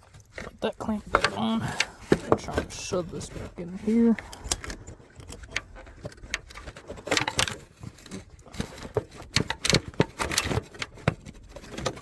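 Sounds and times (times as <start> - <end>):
small clicks and metallic rattles: 0.0 - 12.0.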